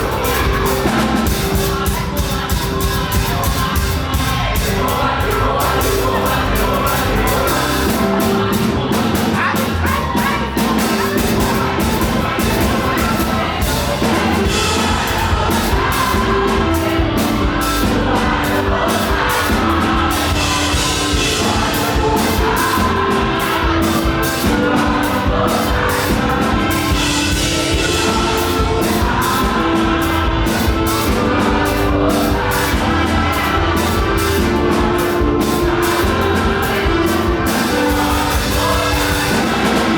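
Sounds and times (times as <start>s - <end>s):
gospel band playing: 0.0s - 39.9s
voices singing: 0.0s - 39.9s.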